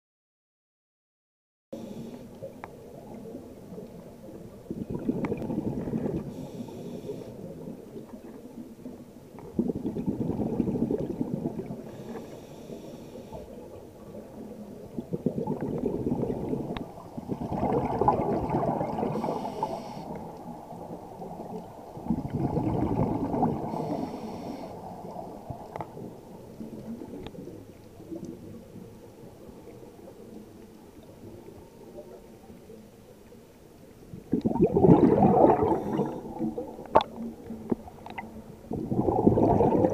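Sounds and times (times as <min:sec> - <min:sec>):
diver's exhaled bubbles gurgling: 0:02.5 - 0:12.4, 0:13.2 - 0:32.4, 0:34.1 - 0:39.9.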